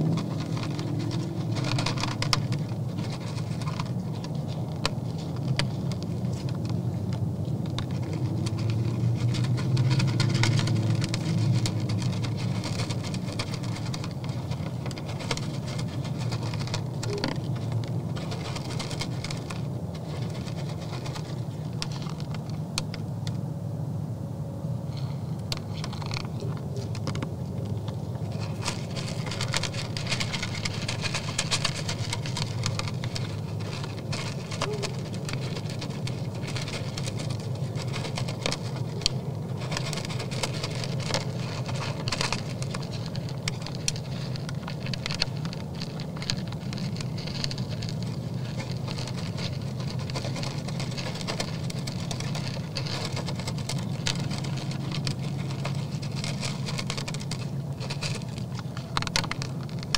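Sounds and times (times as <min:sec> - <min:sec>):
deer chewing feed: 0:00.0 - 0:23.2, 0:24.9 - 0:59.9.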